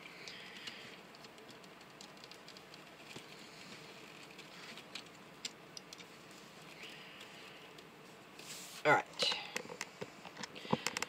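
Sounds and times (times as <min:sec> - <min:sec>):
low steady hiss: 0:00.0 - 0:10.8.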